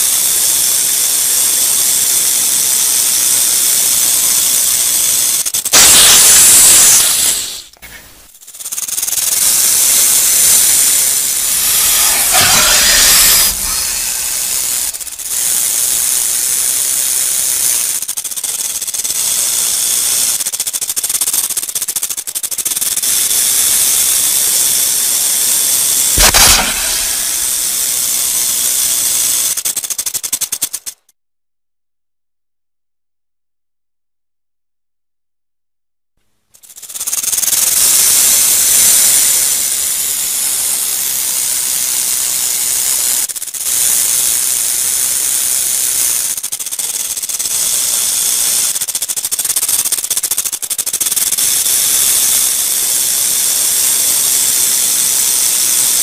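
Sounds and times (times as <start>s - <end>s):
rattlesnake tail rattling: 0.0s - 31.1s, 36.5s - 56.0s.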